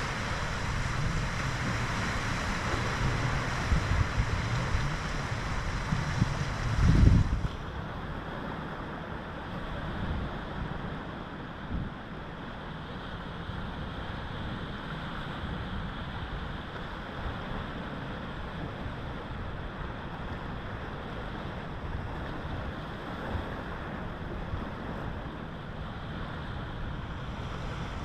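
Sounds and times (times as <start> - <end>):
sea surf: 0.0 - 28.0
wind on microphone: 0.0 - 28.0.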